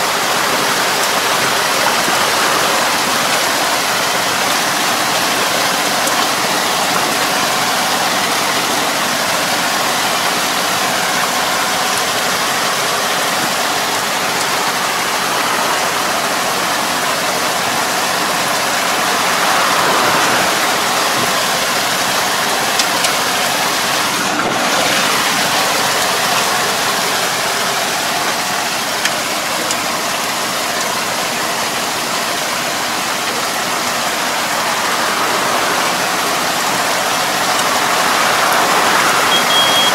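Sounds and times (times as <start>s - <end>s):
tractor engine running under load: 0.0s - 39.9s
water and mud splashing: 0.0s - 39.9s.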